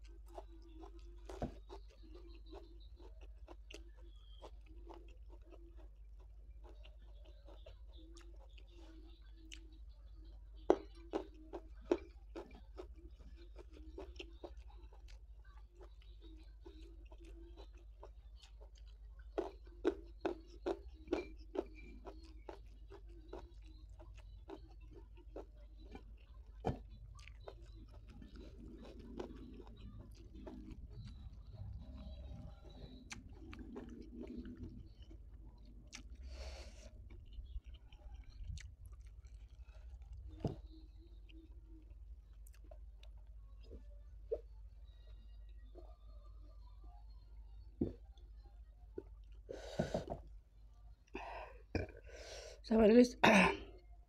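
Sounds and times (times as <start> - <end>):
person chewing: 0.0 - 45.1.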